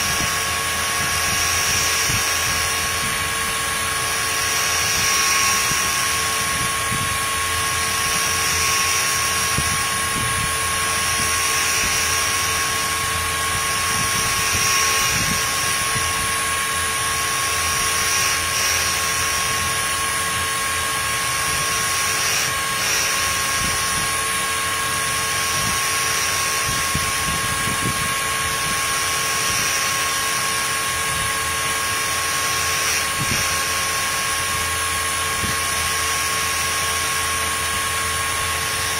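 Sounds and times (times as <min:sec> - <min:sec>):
grinding wheel grinding metal: 0:00.0 - 0:38.9
router spindle high whine: 0:00.0 - 0:38.9.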